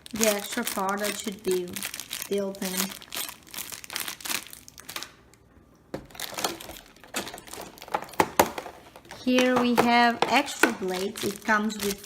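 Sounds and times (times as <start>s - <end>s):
plastic bags crinkling: 0.0s - 5.4s, 6.0s - 12.0s.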